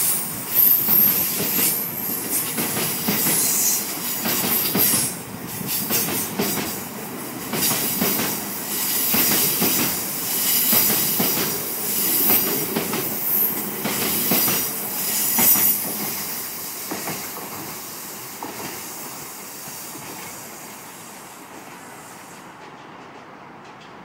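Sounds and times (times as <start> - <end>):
freight train wheels clacking: 0.0 - 24.0
train wheels hissing and squealing: 0.0 - 24.0.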